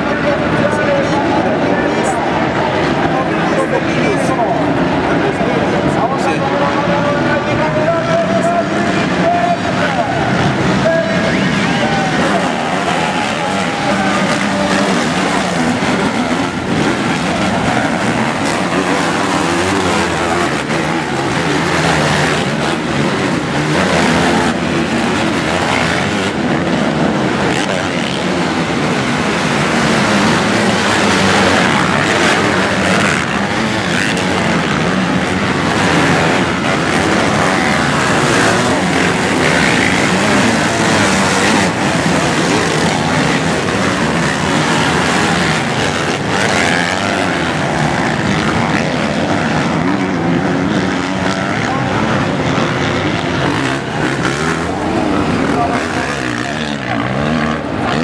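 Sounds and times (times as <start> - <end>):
dirt bike engines racing: 0.0 - 58.0.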